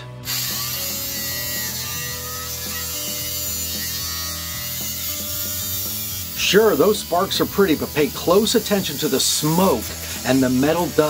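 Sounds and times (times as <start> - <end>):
angle grinder cutting metal: 0.0 - 11.0.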